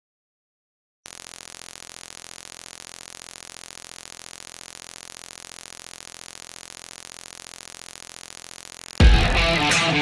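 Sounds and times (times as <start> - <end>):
pulsing static hiss: 1.1 - 9.6.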